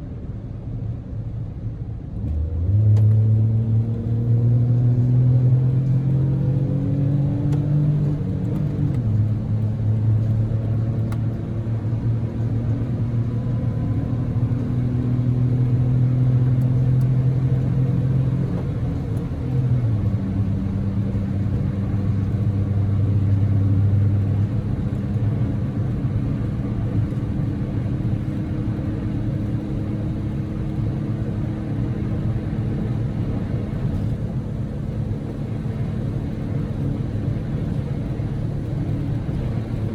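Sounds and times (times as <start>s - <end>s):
road noise: 0.0s - 39.9s
car engine humming: 5.0s - 39.9s.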